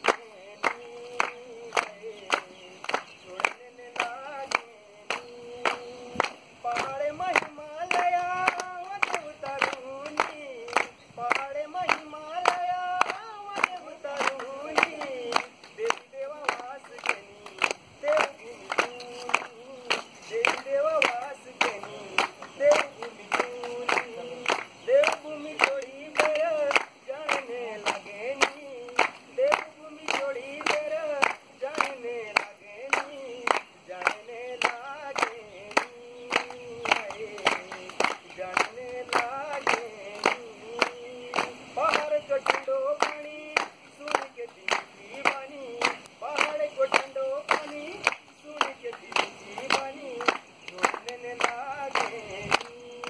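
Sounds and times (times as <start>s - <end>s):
crowd clapping in time: 0.0s - 53.0s
unaccompanied folk singing: 0.0s - 53.0s.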